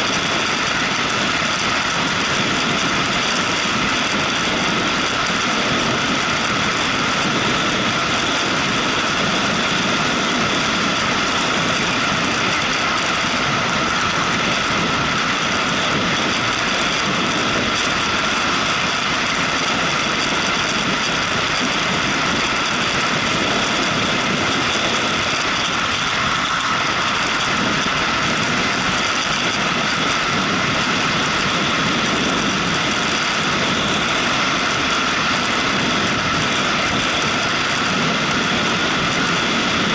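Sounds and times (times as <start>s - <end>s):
motorcycle engine and wind rush: 0.0s - 39.9s.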